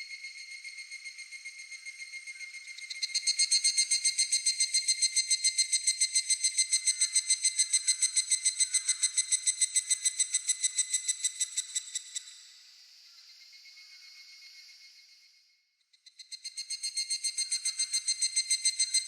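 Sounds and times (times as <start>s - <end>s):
cicada pulsing call: 0.0s - 15.0s, 16.1s - 19.0s.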